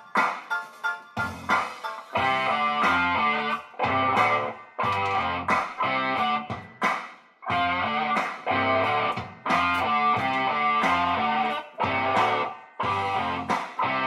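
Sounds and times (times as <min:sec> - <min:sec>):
electric guitar rhythmic chords: 0:00.0 - 0:14.0.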